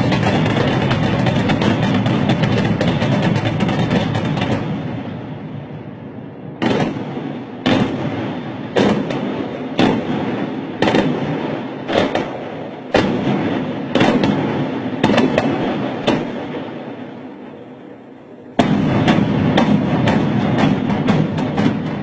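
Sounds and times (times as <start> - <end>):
rumbling echo: 0.0 - 22.0.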